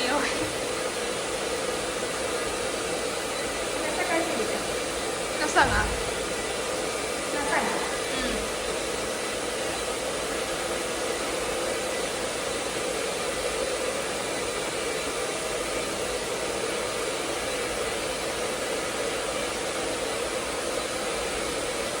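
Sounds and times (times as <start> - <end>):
hair dryer blowing: 0.0 - 22.0.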